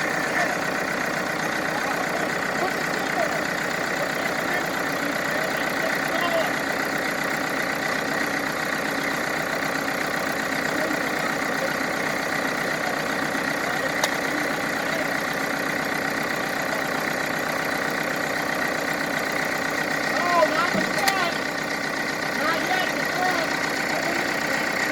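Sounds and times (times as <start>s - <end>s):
heavy equipment engine running: 0.0s - 24.9s.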